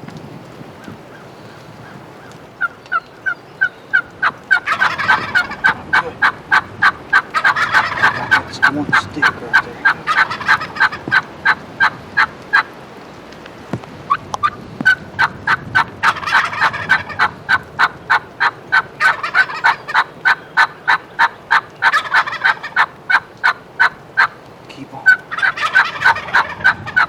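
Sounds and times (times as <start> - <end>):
turkey sharp calling notes: 1.1 - 13.3, 14.1 - 27.0
turkey rattling gobbles: 1.1 - 27.0.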